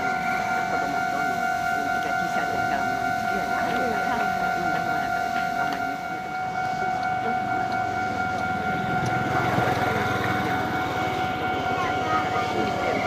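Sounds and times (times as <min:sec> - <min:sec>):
level crossing alarm tone: 0:00.0 - 0:13.0
train rumbling past: 0:00.0 - 0:13.0.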